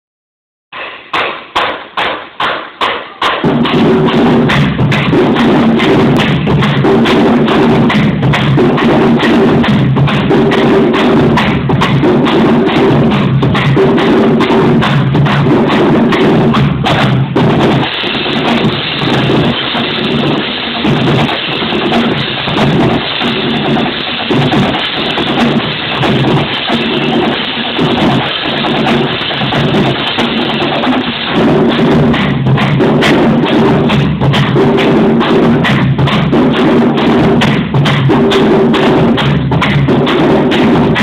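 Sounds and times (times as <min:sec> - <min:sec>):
marching drumline cadence: 0:00.7 - 0:41.0
hand cymbals crashing: 0:00.8 - 0:41.0.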